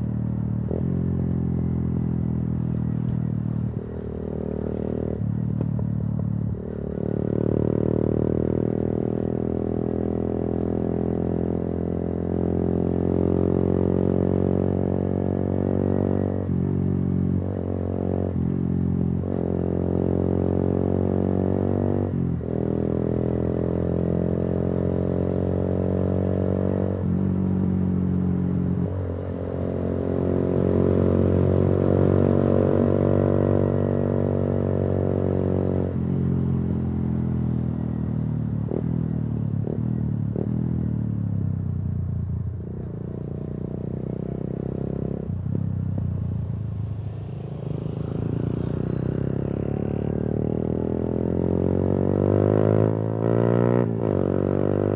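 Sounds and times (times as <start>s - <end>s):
motorcycle engine revving: 7.1s - 41.9s, 42.5s - 54.9s.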